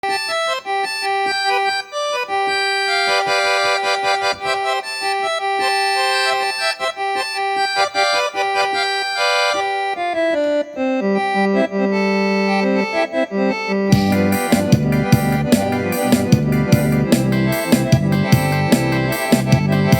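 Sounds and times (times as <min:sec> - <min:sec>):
accordion melody: 0:00.0 - 0:19.9.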